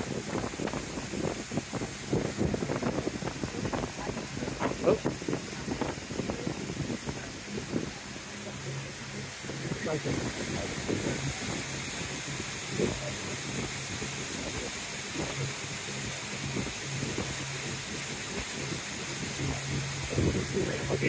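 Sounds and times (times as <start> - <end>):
boat engine hum: 0.0 - 21.0
rushing water: 0.0 - 21.0
wind hiss: 0.0 - 21.0.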